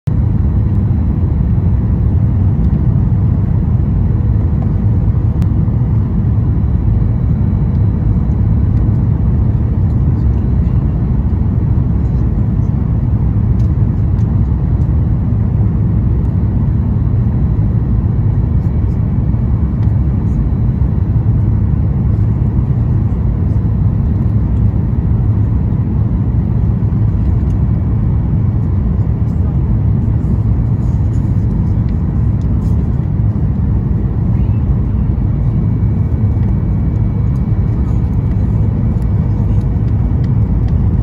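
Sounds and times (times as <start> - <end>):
jet engine and airflow rumble: 0.0 - 41.0.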